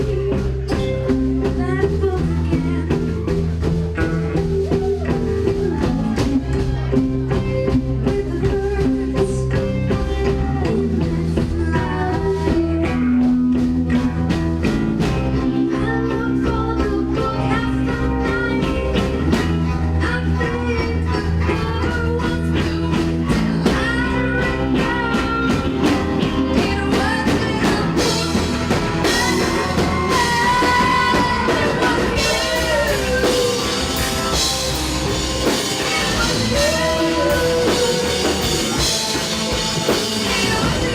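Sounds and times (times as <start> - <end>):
high bending lead guitar: 0.0 - 40.9
rock band playing live: 0.0 - 40.9.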